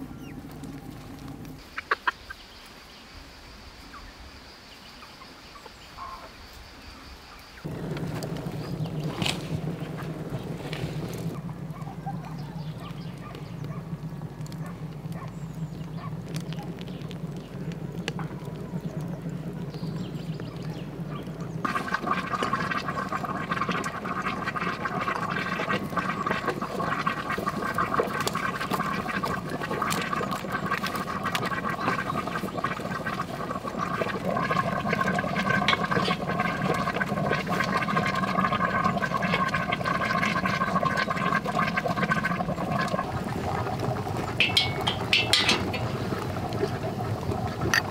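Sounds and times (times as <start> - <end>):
fire crackling: 0.0 - 1.9, 7.6 - 47.9
samovar water bubbling: 0.0 - 2.1, 7.6 - 47.9.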